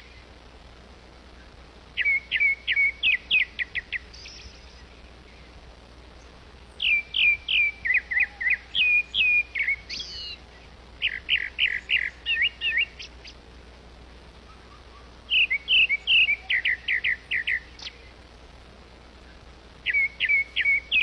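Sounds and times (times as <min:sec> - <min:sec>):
thrush singing whistled notes: 0:01.3 - 0:05.6, 0:06.2 - 0:13.4, 0:14.4 - 0:18.2, 0:19.2 - 0:21.0.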